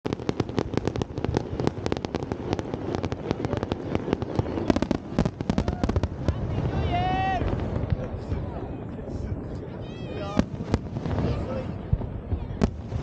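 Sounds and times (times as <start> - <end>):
fireworks popping and banging: 0.0 - 13.0.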